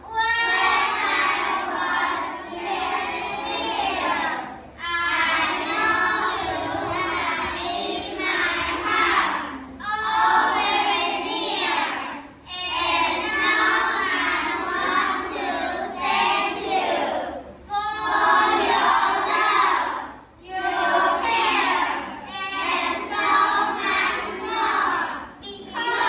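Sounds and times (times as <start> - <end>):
children reciting in unison: 0.0 - 26.0.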